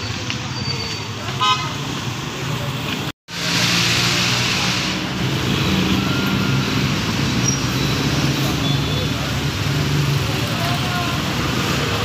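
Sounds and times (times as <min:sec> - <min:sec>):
motorcycle and car engines: 0:00.0 - 0:12.0.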